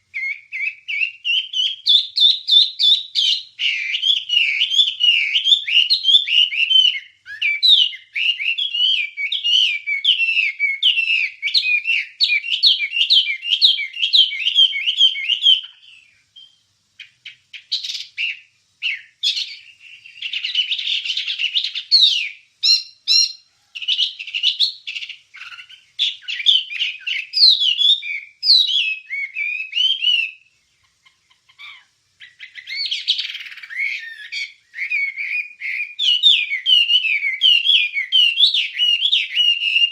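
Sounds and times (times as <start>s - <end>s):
songbird warbling: 0.0s - 39.9s.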